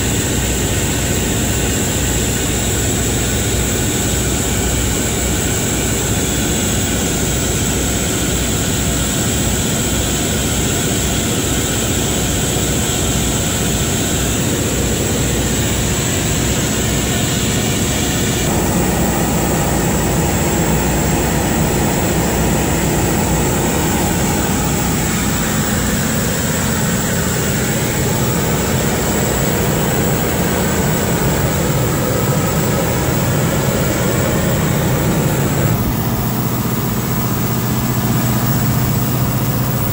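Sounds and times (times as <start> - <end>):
generator engine drone: 0.0 - 39.9
high-pitched whine: 0.1 - 39.9.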